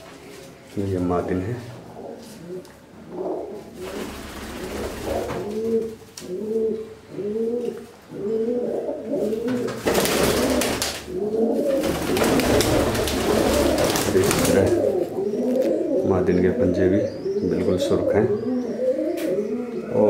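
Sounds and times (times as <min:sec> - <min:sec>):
pigeons cooing: 0:01.2 - 0:20.0.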